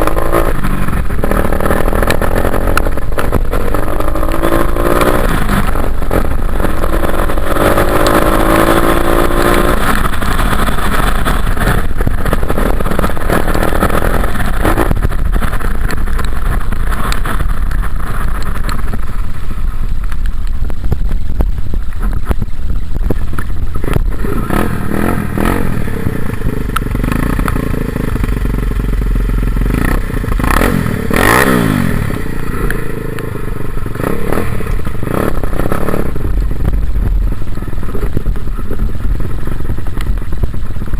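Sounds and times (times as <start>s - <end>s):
dirt bike engine revving: 0.0s - 18.8s, 23.7s - 39.7s.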